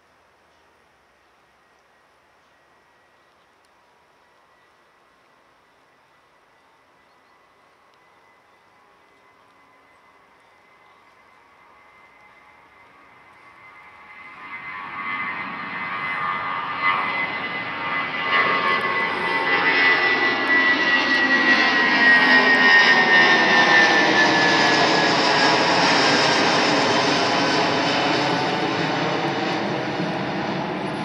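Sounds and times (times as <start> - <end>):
jet engine roar with whine: 0.5 - 31.0.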